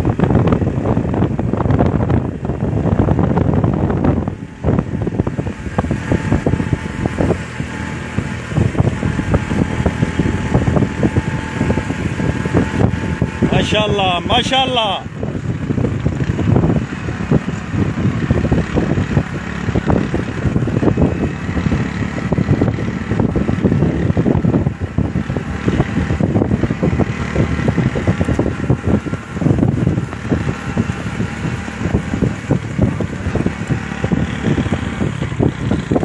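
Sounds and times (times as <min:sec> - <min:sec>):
vehicle engine and tyres rumbling: 0:00.0 - 0:36.0
wind buffeting microphone: 0:00.0 - 0:36.0.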